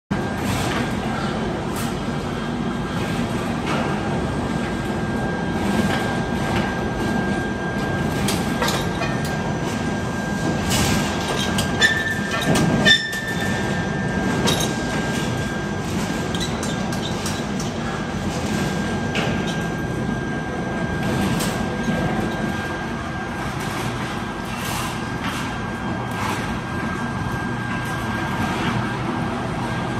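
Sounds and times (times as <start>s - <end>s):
welding machine drone and whine: 0.1s - 29.9s.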